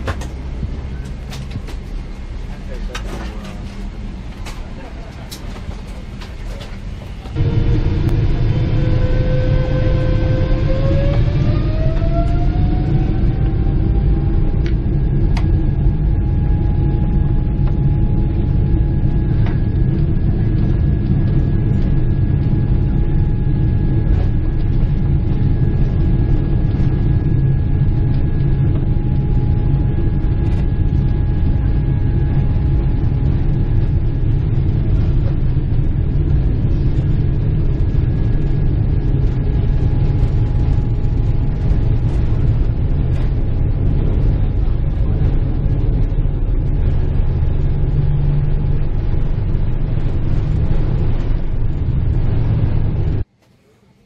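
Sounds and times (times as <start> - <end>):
jet engine rumble in cabin: 0.0 - 54.0
jet engine whine: 0.0 - 54.0.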